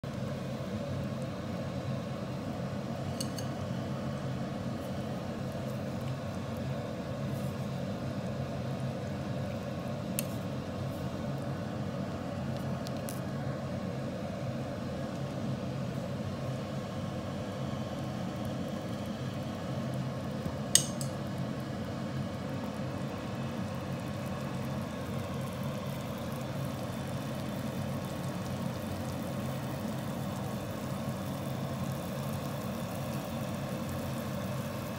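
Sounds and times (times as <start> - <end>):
broth simmering: 0.0 - 34.9.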